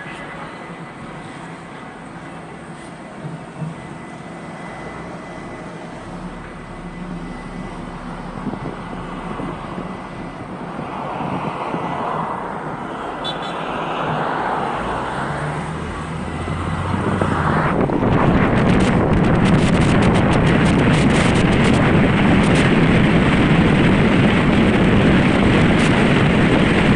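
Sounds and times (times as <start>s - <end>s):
engine and tyre roar: 0.0s - 26.9s.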